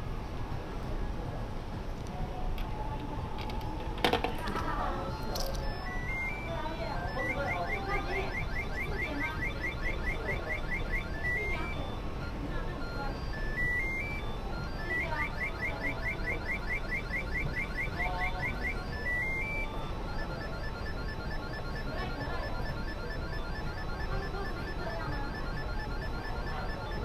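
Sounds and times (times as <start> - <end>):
steady background hum: 0.0 - 27.0
electronic beeping tune: 4.5 - 27.0.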